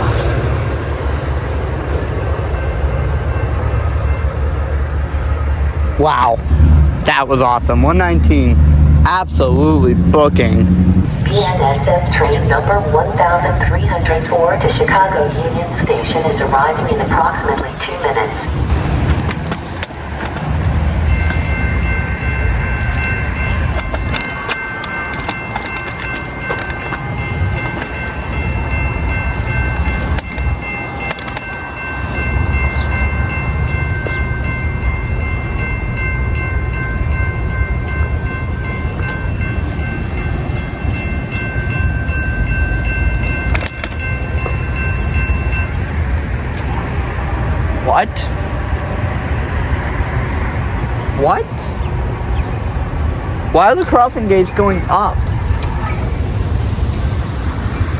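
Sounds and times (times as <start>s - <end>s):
rail clacks: 0.0s - 47.0s
train rumbling on rails: 0.0s - 57.9s.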